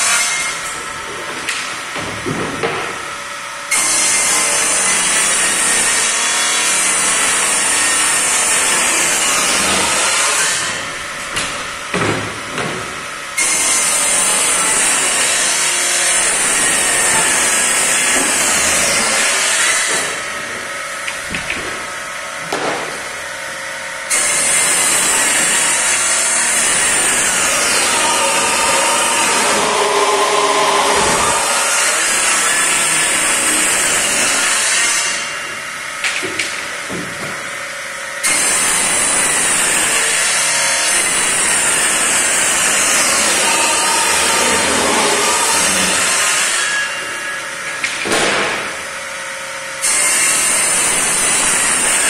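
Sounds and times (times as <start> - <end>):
table saw cutting plywood: 0.0 - 52.0.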